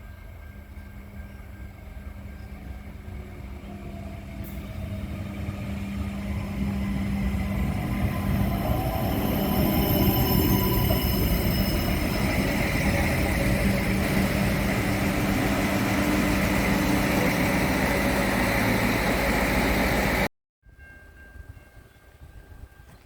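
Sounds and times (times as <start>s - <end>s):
train rumbling: 0.0s - 20.3s.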